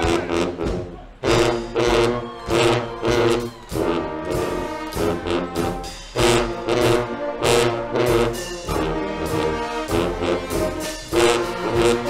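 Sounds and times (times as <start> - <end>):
brass band chords: 0.0 - 12.0
drums and cymbals: 0.0 - 12.0.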